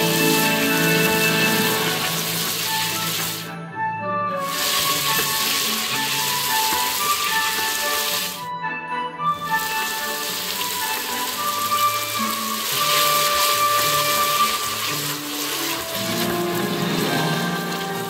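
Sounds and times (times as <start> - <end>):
food sizzling in a pot: 0.0 - 3.5, 4.4 - 8.4, 9.5 - 18.0
background music with held notes: 0.0 - 18.0.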